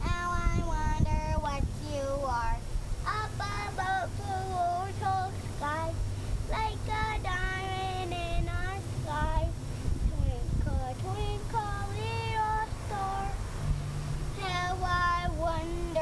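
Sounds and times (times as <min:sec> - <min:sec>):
girl singing: 0:00.0 - 0:13.4, 0:14.3 - 0:16.0.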